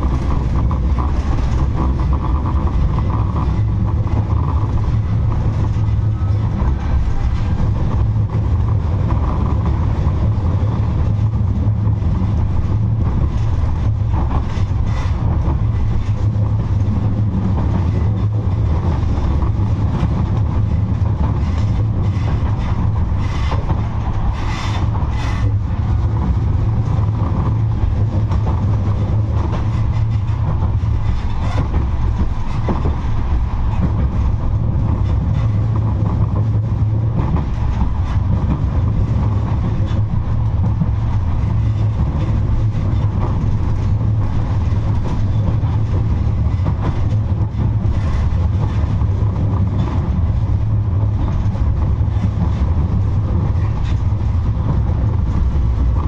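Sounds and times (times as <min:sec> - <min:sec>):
tram wheels rumbling on rails: 0:00.0 - 0:56.0.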